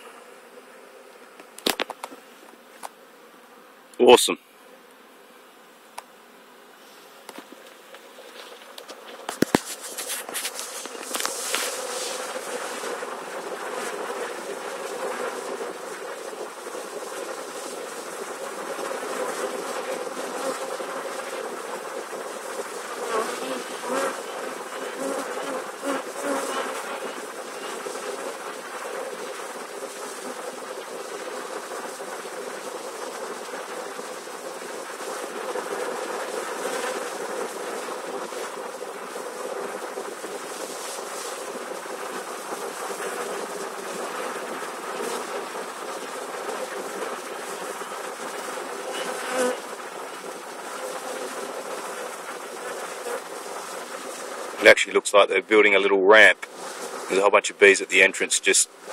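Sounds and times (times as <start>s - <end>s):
bees buzzing: 0.0s - 58.9s
sharp crackles: 1.1s - 3.0s, 6.8s - 58.9s.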